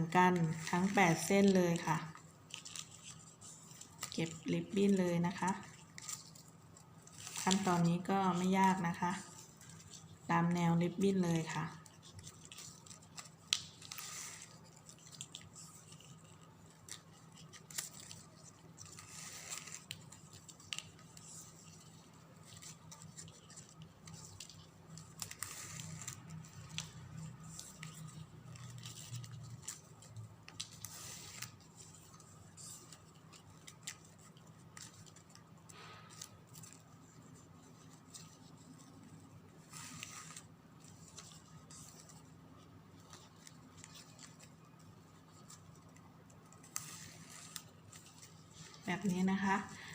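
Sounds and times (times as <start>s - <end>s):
ribbon rustling: 0.0s - 49.9s
soft crinkles: 0.0s - 49.9s.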